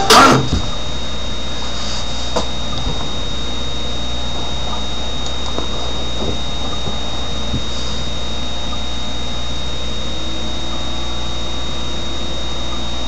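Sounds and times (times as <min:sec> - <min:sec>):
high-pitched whine: 0:00.0 - 0:13.0
low hum: 0:00.0 - 0:13.0.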